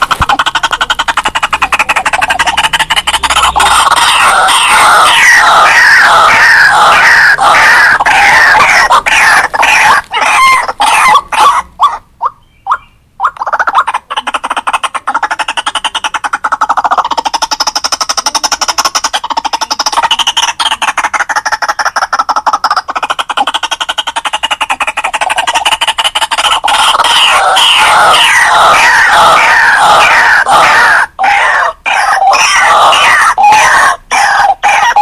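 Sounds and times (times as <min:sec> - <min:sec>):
bird calls: 0:00.0 - 0:35.0.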